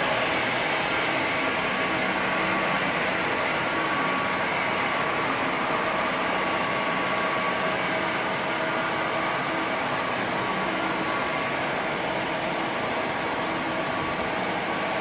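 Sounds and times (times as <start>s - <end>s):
floor-cleaning machine running: 0.0s - 15.0s.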